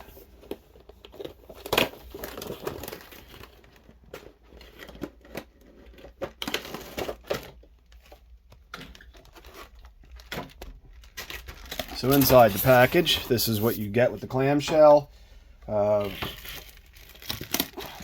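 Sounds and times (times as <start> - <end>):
packaging rustling and crinkling: 0.0 - 15.1, 15.7 - 18.0.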